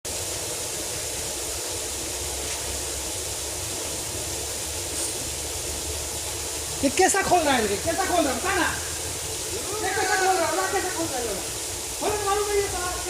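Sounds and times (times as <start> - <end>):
steady hiss: 0.1 - 13.0.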